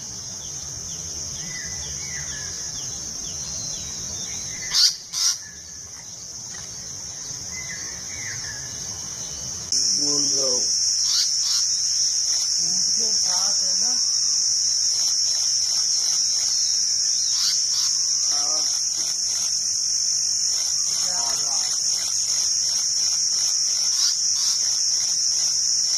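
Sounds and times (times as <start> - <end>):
insects droning: 0.0 - 25.9
faint wavering calls: 1.4 - 8.8, 9.8 - 25.9.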